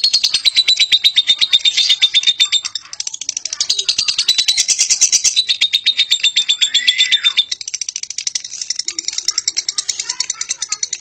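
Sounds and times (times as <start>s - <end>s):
lovebird chattering: 0.0s - 11.0s.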